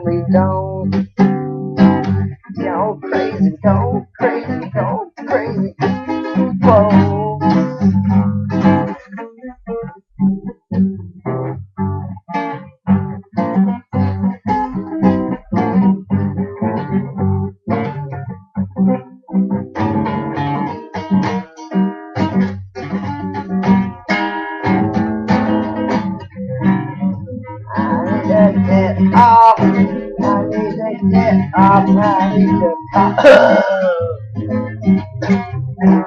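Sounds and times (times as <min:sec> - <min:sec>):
guitar strummed chords: 0:00.0 - 0:36.0.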